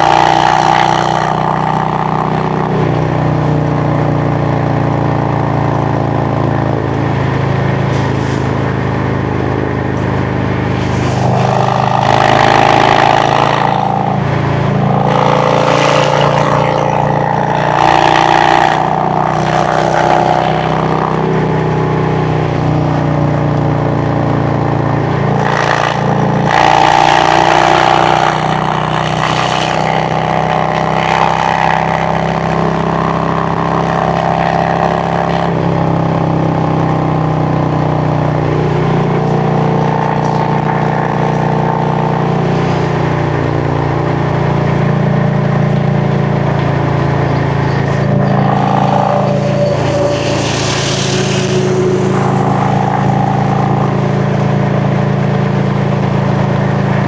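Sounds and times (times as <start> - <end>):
motorcycle exhaust: 0.0 - 57.0.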